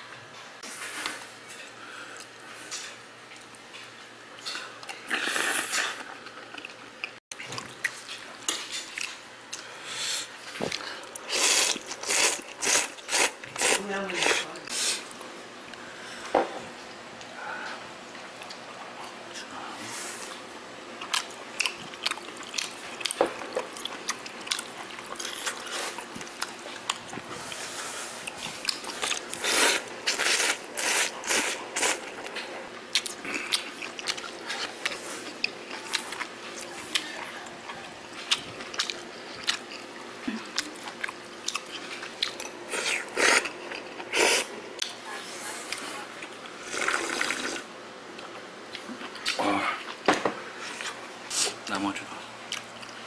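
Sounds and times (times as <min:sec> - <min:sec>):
person chewing noodles: 0:00.9 - 0:15.9, 0:21.0 - 0:44.6, 0:45.7 - 0:51.6, 0:52.5 - 0:53.0.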